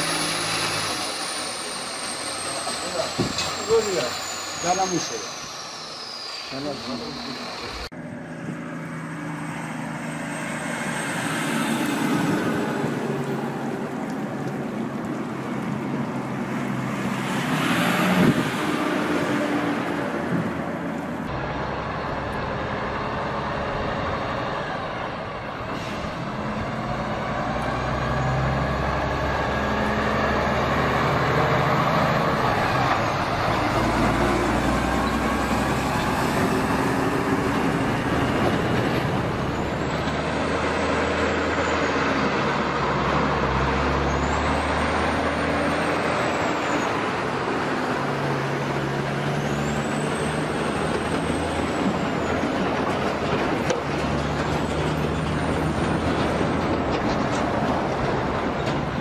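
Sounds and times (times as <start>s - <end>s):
heavy diesel vehicles driving by: 0.0s - 59.0s
road trains droning past: 0.0s - 59.0s.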